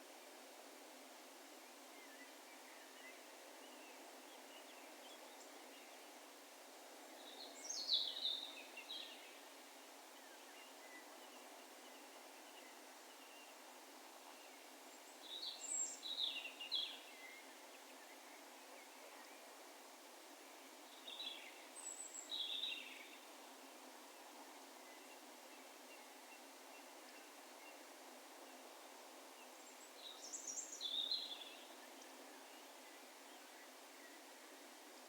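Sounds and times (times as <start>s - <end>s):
open field ambience hiss: 0.0s - 35.0s.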